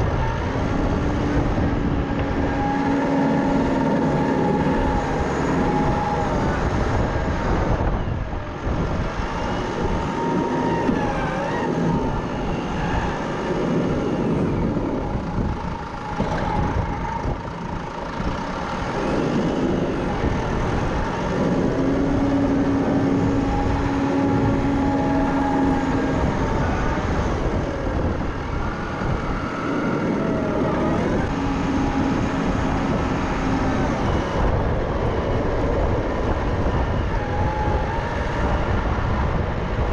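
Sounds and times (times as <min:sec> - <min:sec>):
humming whine: 0:00.0 - 0:39.9
tractor engine running: 0:00.0 - 0:39.9.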